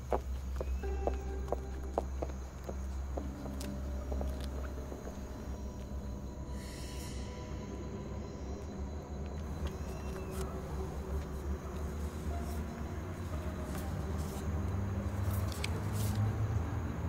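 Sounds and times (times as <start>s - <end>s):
low droning underscore music: 0.0s - 17.0s.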